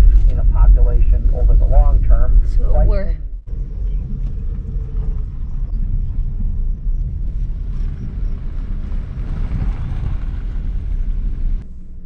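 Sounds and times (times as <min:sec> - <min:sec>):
tyre and wind noise: 0:00.0 - 0:11.6
car driving rumble inside cabin: 0:00.0 - 0:12.0.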